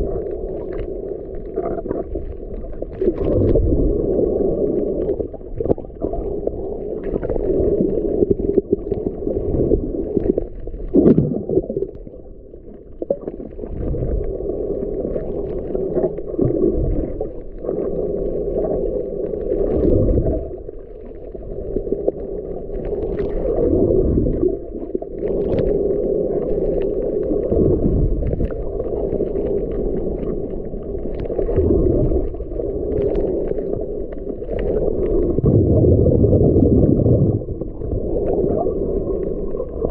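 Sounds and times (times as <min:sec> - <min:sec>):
muffled underwater rumble: 0:00.0 - 0:39.9
water gurgling: 0:00.0 - 0:39.9.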